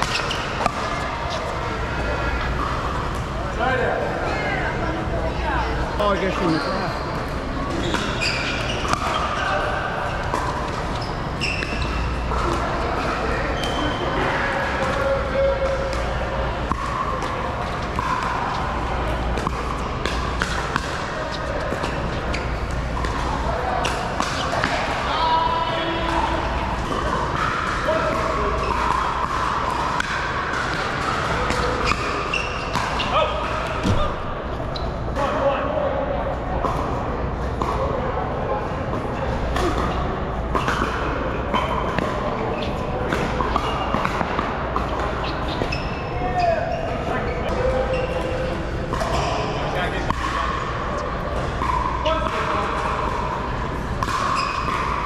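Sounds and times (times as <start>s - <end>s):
indoor hall hum: 0.0s - 55.0s.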